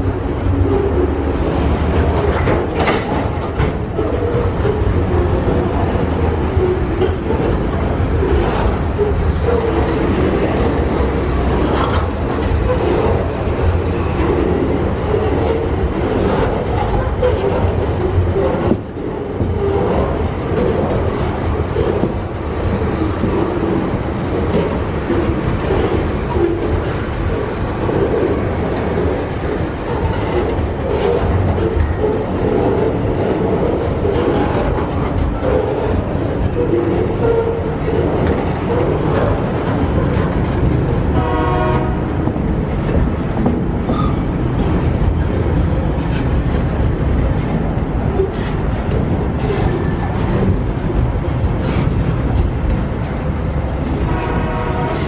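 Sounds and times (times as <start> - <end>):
train wheels rumbling on rails: 0.0 - 55.0
wheels clicking over rail joints: 0.0 - 55.0.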